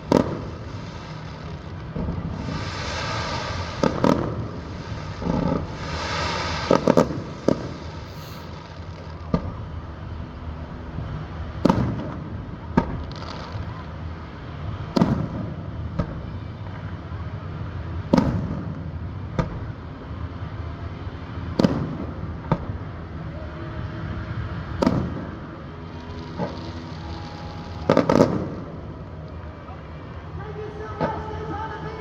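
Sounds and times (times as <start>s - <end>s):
fireworks booming overhead: 0.0s - 32.0s.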